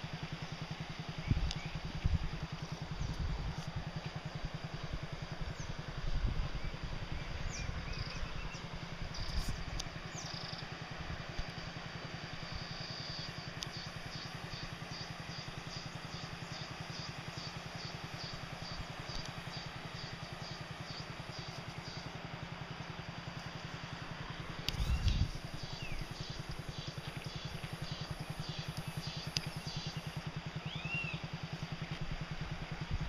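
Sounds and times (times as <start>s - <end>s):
low pulsing throb: 0.0s - 33.0s.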